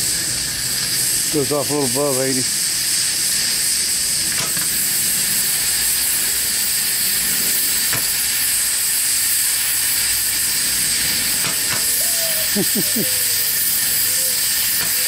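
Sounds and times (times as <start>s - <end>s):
safety valve hissing: 0.0s - 15.0s.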